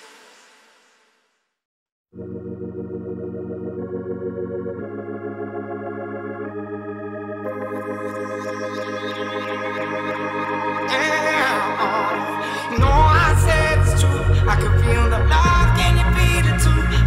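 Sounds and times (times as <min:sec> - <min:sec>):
organ-like keyboard chords: 0:02.2 - 0:17.0.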